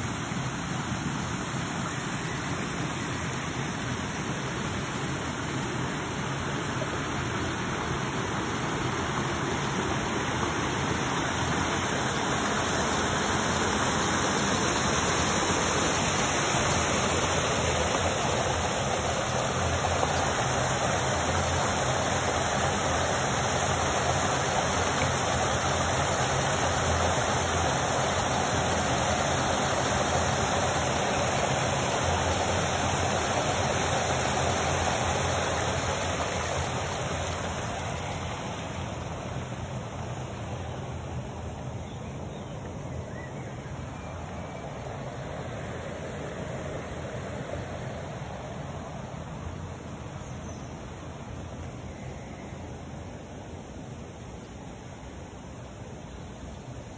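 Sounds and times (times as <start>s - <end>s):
water rushing over weir: 0.0s - 41.8s, 43.5s - 50.2s.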